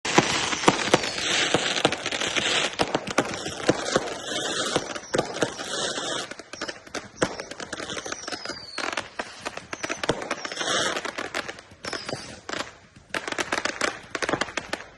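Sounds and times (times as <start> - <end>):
fireworks cracking and popping: 0.0 - 14.9.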